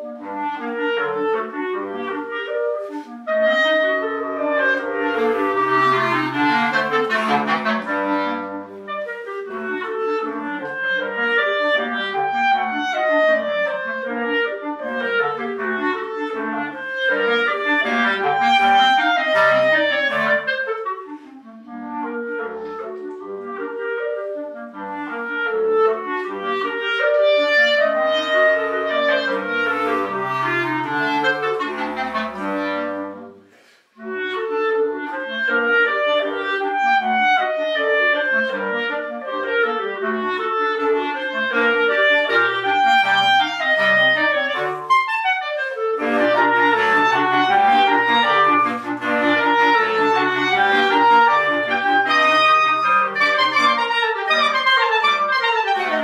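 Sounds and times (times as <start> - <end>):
clarinet quartet playing classical piece: 0.0 - 56.0.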